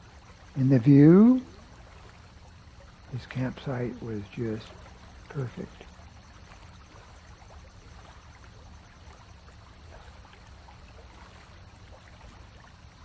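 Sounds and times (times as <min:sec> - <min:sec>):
low steady hum: 0:00.0 - 0:13.0
steady hiss: 0:00.0 - 0:13.0.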